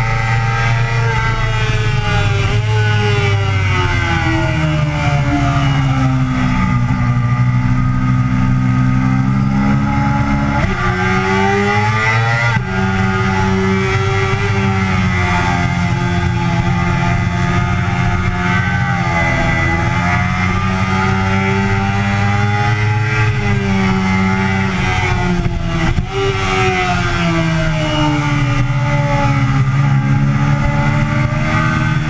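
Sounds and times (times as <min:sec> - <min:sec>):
sport bike engine at speed: 0:00.0 - 0:32.0.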